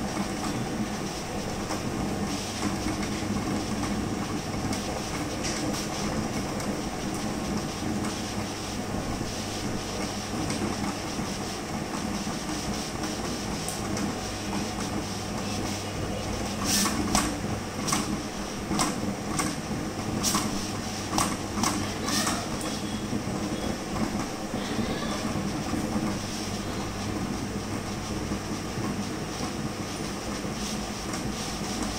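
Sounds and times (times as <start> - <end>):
plotter mechanical hum: 0.0 - 31.9.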